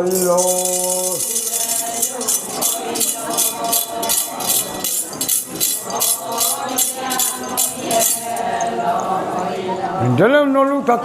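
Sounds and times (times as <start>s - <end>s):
metal jingles shaken rhythmically: 0.0s - 9.6s
faint voices: 0.0s - 11.0s.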